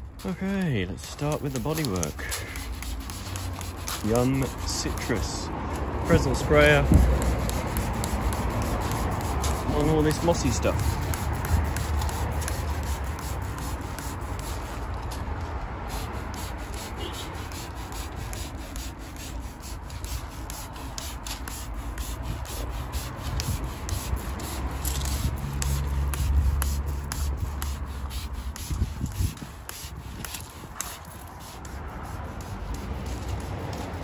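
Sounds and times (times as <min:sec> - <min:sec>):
pressure sprayer hissing: 0:01.2 - 0:05.4, 0:06.0 - 0:14.8, 0:15.8 - 0:34.0.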